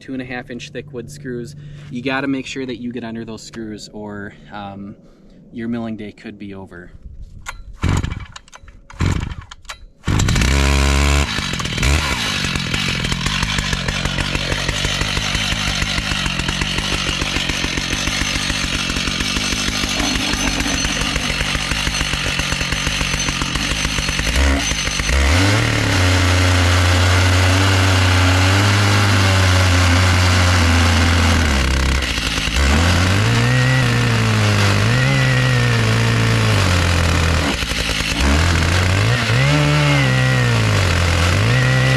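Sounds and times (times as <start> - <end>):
chainsaw cutting log: 7.8 - 41.9
chainsaw pull-started: 7.8 - 41.9.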